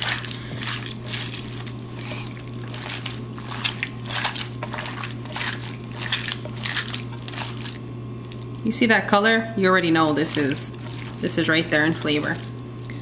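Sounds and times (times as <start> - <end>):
hands squelching meat in marinade: 0.0 - 8.6, 10.0 - 13.0.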